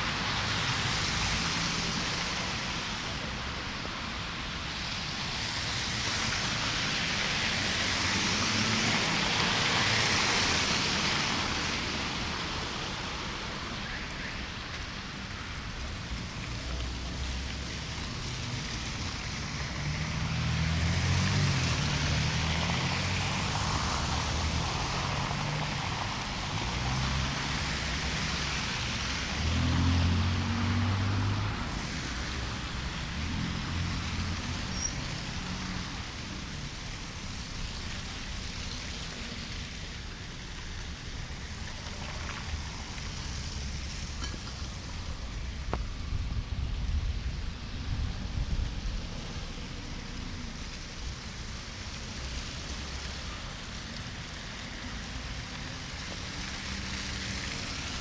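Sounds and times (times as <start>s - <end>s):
passing traffic: 0.0s - 58.0s
wind: 0.0s - 58.0s.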